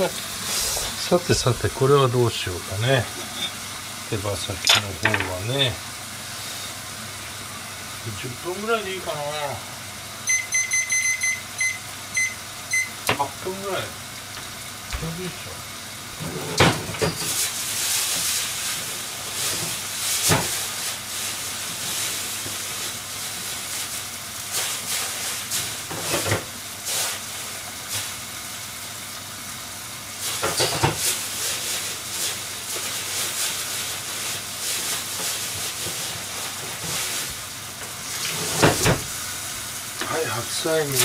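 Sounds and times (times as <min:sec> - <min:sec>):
patties sizzling in a pan: 0:00.0 - 0:41.0.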